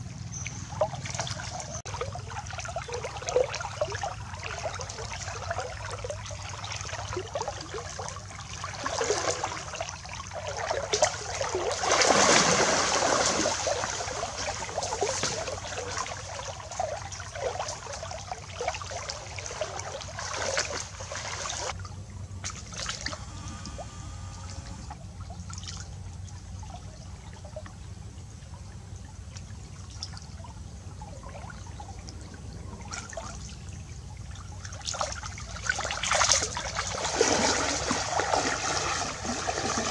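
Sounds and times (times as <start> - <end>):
water splashing from wading: 0.0 - 39.9.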